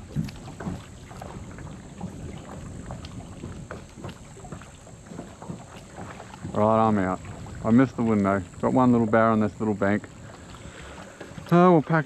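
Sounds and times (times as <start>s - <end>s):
wind gusting over microphone: 0.0s - 11.5s
water lapping around boat: 0.0s - 12.0s.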